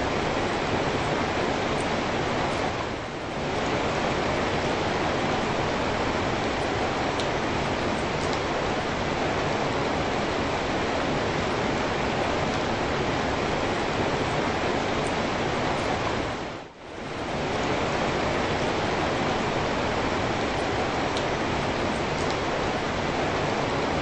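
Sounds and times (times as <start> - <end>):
steady rain on a wet street: 0.0 - 24.0.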